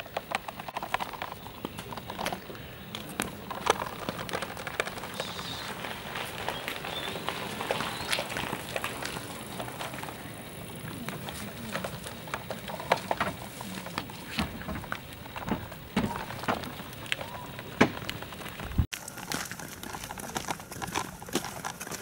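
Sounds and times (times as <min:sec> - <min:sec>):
stroller wheel rattling: 0:00.0 - 0:22.0.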